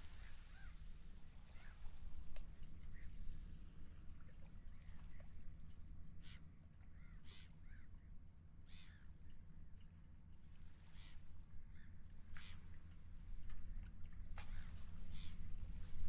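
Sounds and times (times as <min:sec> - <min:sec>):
wind and water rumble: 0:00.0 - 0:07.0, 0:07.6 - 0:16.0.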